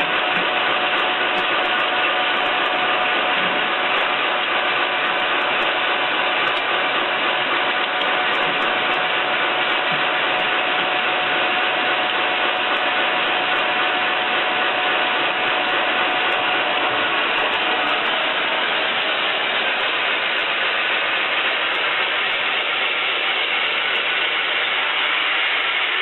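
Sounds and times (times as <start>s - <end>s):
high mechanical whine: 0.0s - 26.0s
sawmill machinery running: 0.0s - 26.0s.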